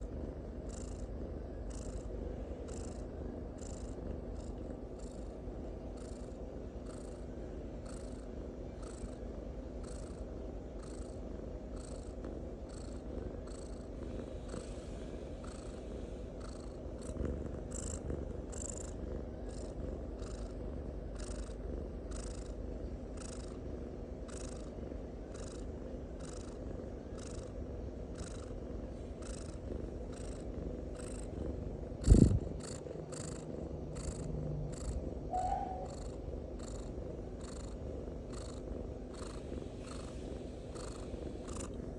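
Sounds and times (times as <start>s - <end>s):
cat snoring: 0.0s - 41.9s.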